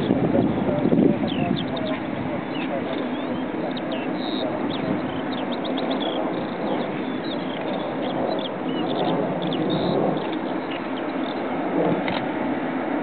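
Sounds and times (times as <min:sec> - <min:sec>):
small birds chirping: 0:00.0 - 0:11.6
distant jet engine noise: 0:00.0 - 0:13.0.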